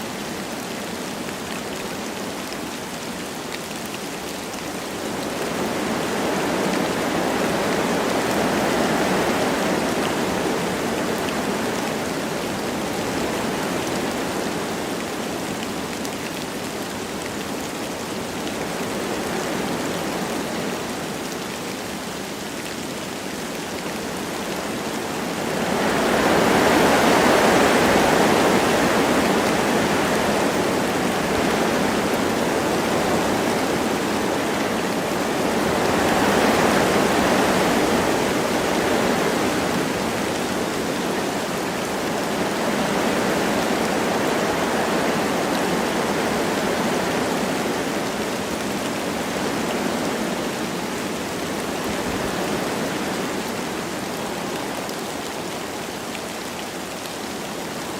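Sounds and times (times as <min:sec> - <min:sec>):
light rain falling: 0:00.0 - 0:57.9
wind through trees: 0:00.0 - 0:57.9.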